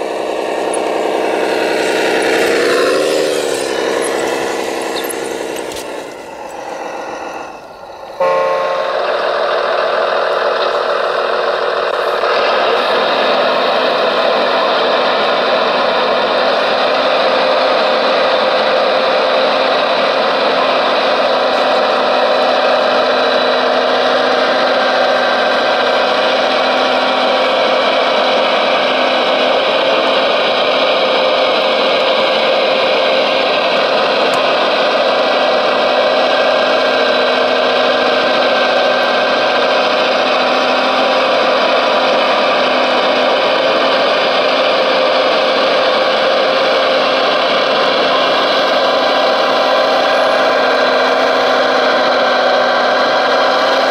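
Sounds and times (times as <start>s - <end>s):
model excavator motor whine: 0.0s - 53.9s.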